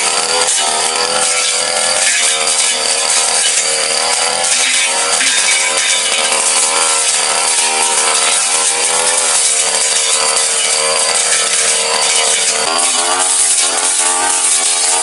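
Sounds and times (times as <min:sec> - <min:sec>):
blade cutting undergrowth: 0:00.0 - 0:15.0
brush cutter engine running: 0:00.0 - 0:15.0.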